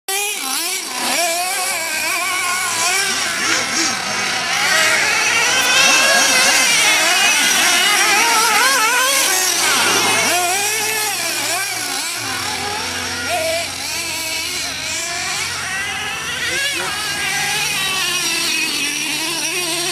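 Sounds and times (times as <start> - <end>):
model car engine revving: 0.1 - 19.9.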